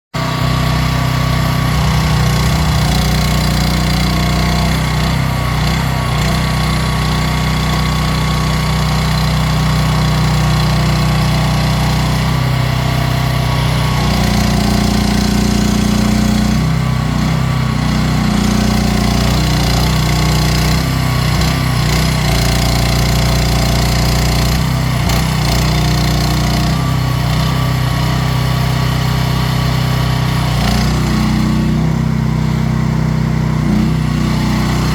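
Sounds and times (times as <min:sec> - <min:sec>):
mini excavator engine running: 0:00.2 - 0:34.9.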